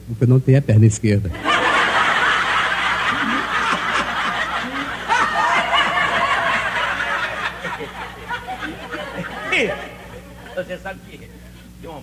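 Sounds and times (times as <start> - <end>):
group of people laughing: 1.3 - 11.6.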